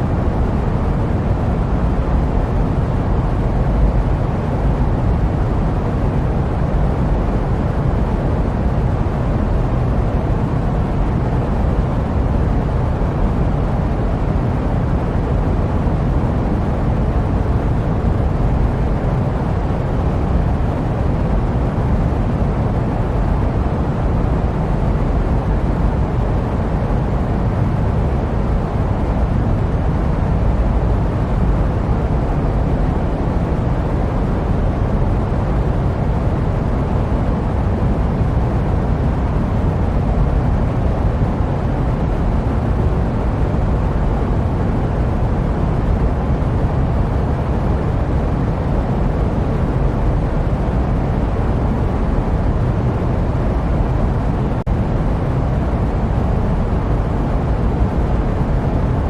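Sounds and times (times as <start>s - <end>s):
jet airplane rumble: 0.0s - 59.0s.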